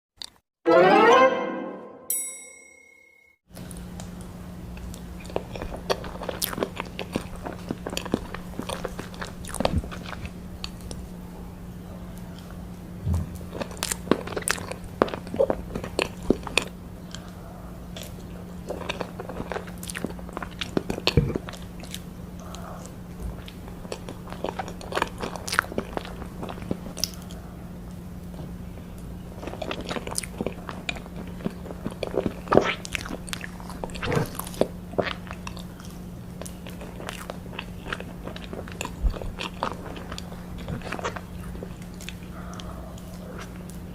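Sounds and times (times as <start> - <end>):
chewing cake: 3.6 - 43.9.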